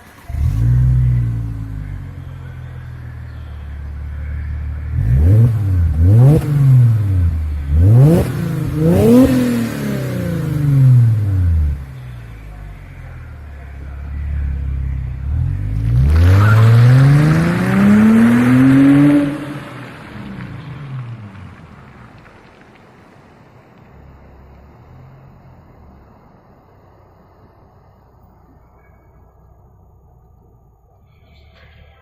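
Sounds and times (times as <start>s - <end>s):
car engine idling and revving: 0.0s - 31.1s.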